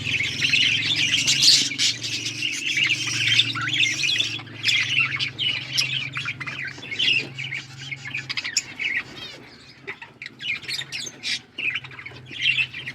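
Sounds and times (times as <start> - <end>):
parrots chirping and squawking: 0.0 - 12.9.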